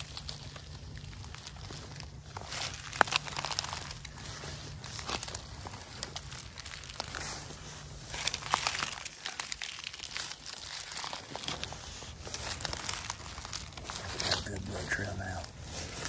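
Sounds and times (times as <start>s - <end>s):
footsteps through dry leaves: 0.0s - 16.0s.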